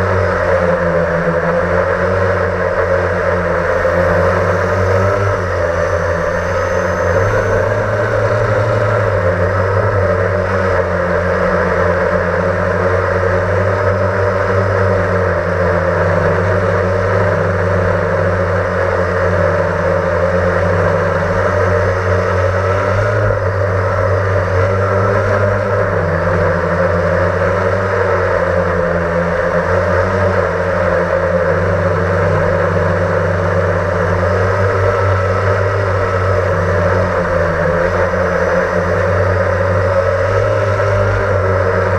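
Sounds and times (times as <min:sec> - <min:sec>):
quadcopter motors and propellers: 0:00.0 - 0:41.9.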